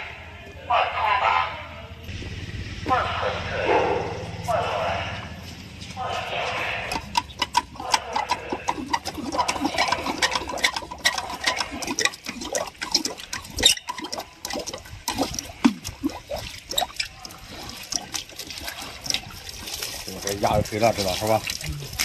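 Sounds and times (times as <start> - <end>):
water gurgling and splashing: 2.1 - 5.4, 6.0 - 22.0.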